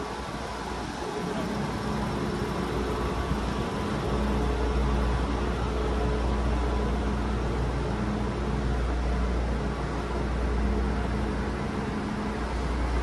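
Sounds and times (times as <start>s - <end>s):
train mechanical hum: 0.0s - 13.0s.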